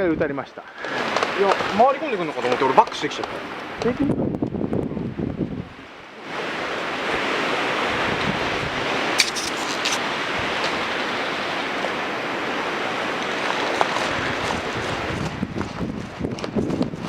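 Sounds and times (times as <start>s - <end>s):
wind rushing on microphone: 3.3s - 17.0s.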